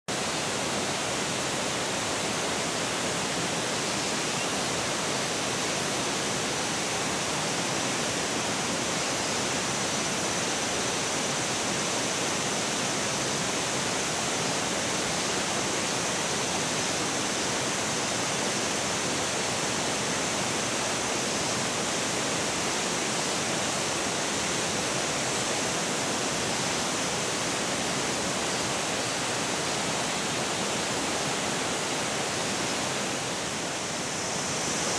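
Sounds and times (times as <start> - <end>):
running water rushing: 0.1 - 34.9.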